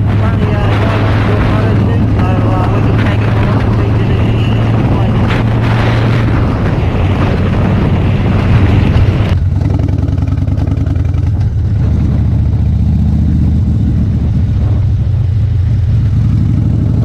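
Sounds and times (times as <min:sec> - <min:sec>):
motorcycle engine: 0:00.0 - 0:17.0
wind rush on microphone: 0:00.0 - 0:17.0.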